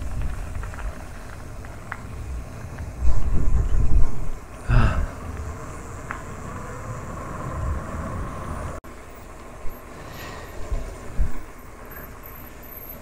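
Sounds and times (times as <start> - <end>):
bicycle tyres on pavement: 0.0 - 13.0
wind rumbling on microphone: 0.0 - 13.0.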